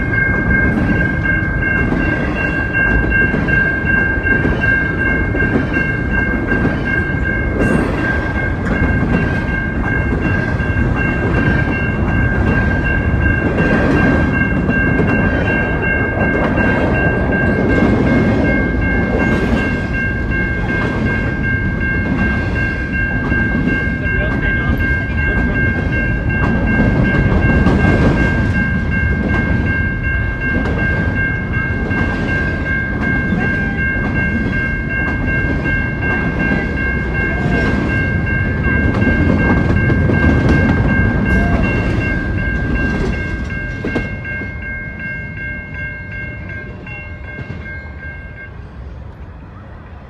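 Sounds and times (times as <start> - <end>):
crossing bell ringing: 0.0 - 50.0
freight train rumbling past: 0.0 - 50.0.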